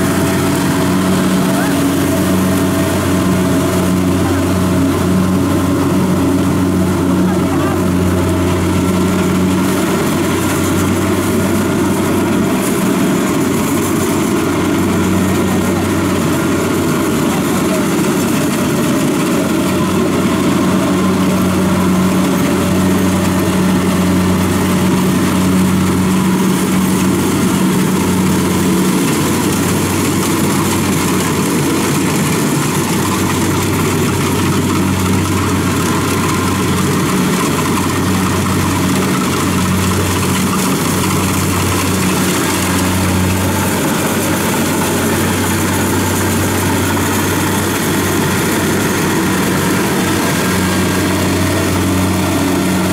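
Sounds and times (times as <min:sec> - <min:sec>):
cutter and threshing machinery: 0:00.0 - 0:52.9
diesel engine drone: 0:00.0 - 0:52.9.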